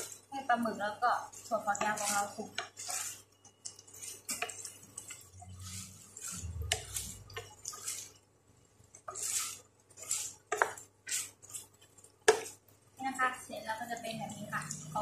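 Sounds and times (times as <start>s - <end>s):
spatula scraping metal pan: 0.0s - 12.7s.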